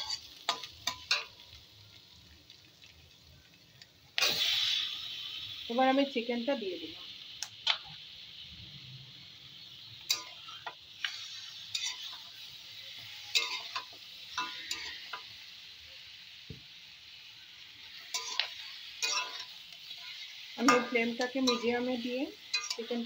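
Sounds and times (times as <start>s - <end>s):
chicken sizzling in hot oil: 0.0s - 23.0s.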